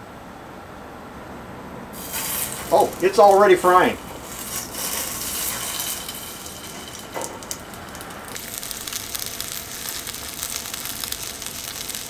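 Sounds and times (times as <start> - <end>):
bacon sizzling in a pan: 2.0 - 12.0.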